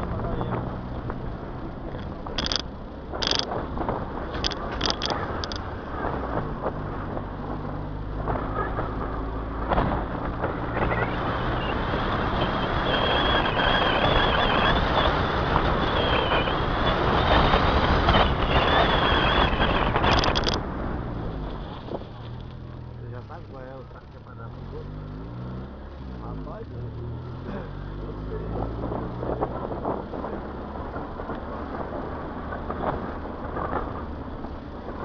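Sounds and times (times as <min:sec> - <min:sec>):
car engine hum: 0:00.0 - 0:35.0
road and wind noise: 0:00.0 - 0:35.0.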